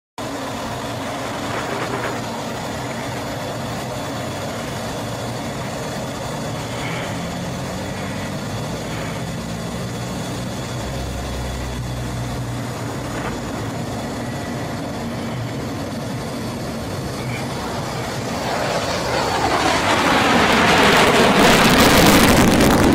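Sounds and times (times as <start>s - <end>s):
heavy low rumble: 0.2s - 22.9s
jet engine roar in cockpit: 0.2s - 22.9s.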